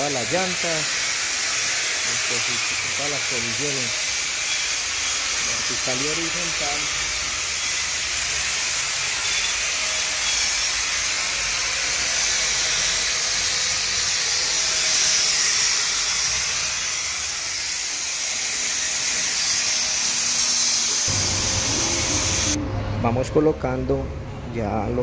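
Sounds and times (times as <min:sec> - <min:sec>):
angle grinder grinding steel: 0:00.0 - 0:22.6.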